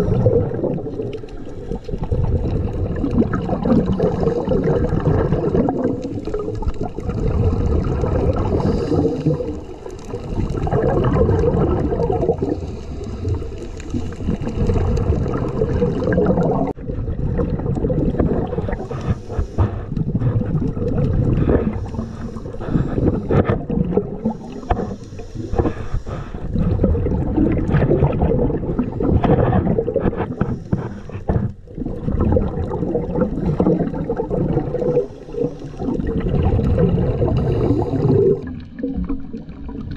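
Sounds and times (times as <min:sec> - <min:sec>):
underwater water rush and gurgle: 0:00.0 - 0:39.9.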